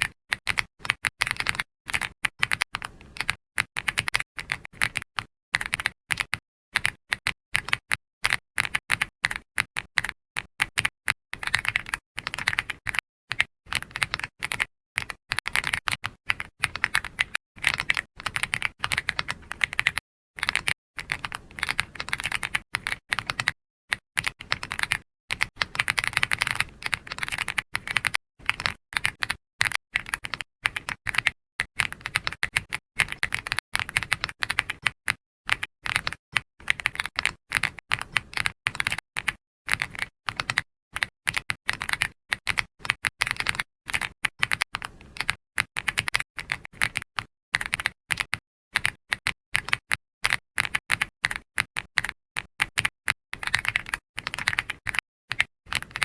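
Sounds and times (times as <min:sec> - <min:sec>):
typing on computer keyboard: 0:00.0 - 0:56.0.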